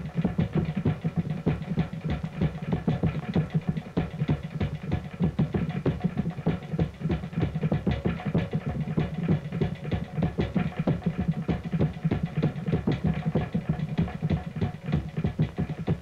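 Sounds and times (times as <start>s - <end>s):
rapid dance drumming: 0.0s - 16.0s.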